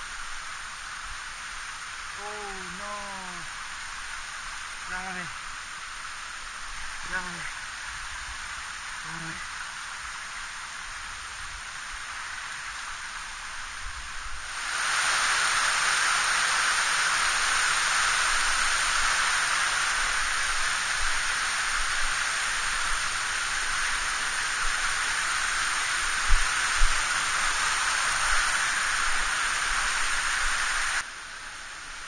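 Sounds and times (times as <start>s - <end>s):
mountain stream rushing: 0.0s - 32.0s.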